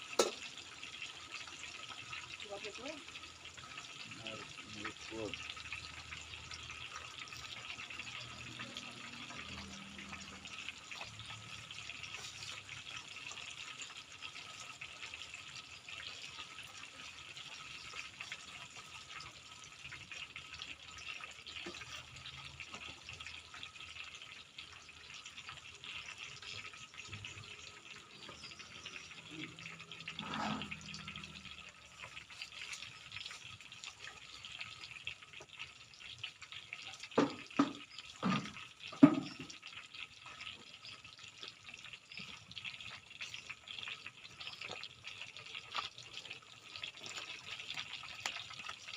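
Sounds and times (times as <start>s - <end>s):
tofu frying in hot oil: 0.0s - 48.9s.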